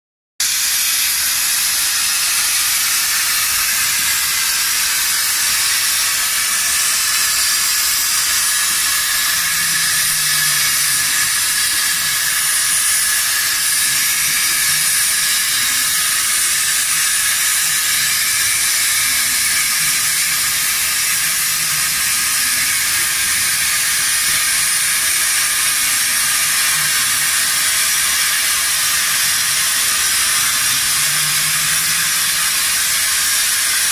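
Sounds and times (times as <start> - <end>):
plasma cutter hissing: 0.4 - 33.9.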